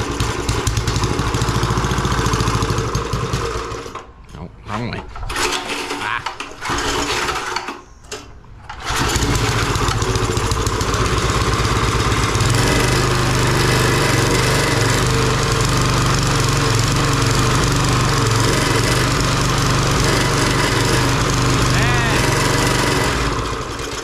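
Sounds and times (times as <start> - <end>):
small gasoline engine running: 0.0 - 4.0, 5.3 - 7.8, 8.8 - 24.0.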